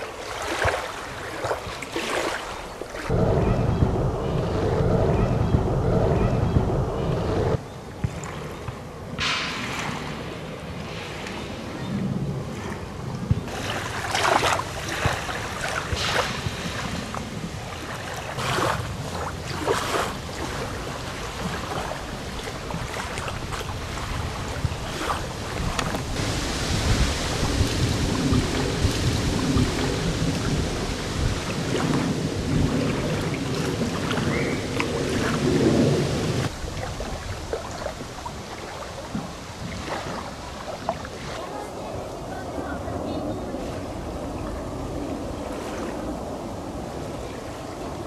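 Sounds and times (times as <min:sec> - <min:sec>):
small waves splashing: 0:00.0 - 0:03.4, 0:07.7 - 0:48.0
wind buffeting microphone: 0:00.0 - 0:48.0.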